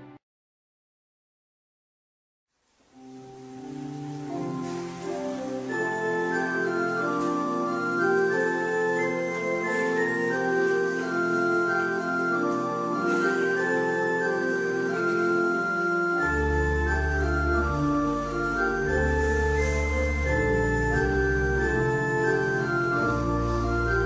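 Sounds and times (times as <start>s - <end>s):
organ playing a hymn: 3.0s - 24.0s
deep organ bass pedal notes: 3.9s - 24.0s.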